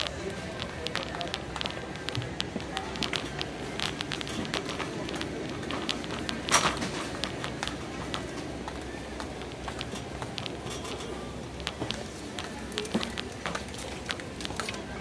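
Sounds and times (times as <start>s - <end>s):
shopping cart clatter: 0.0s - 15.0s
shopping cart rolling: 0.0s - 15.0s.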